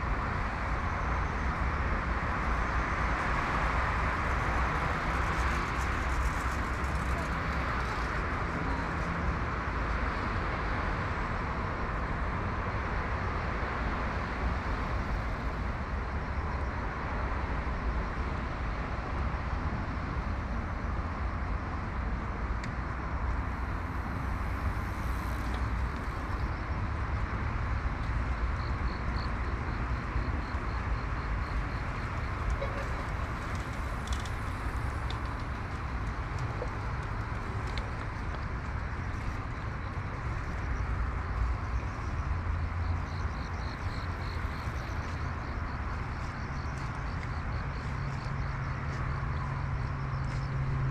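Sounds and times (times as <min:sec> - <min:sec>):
city traffic hum: 0:00.0 - 0:50.9.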